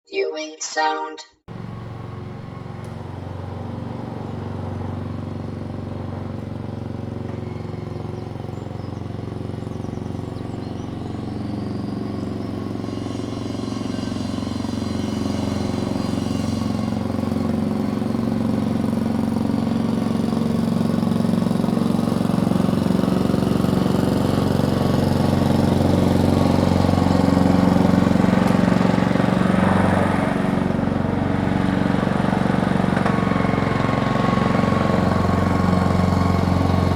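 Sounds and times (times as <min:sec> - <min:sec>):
lawnmower engine running: 0:01.5 - 0:36.9.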